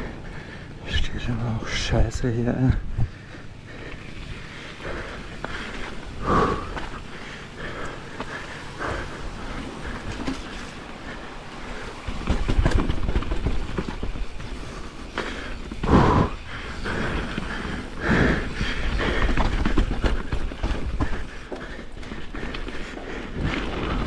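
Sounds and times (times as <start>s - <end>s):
bike tyres rumbling over dirt: 0.0s - 24.0s
bike frame rattling: 2.8s - 24.0s.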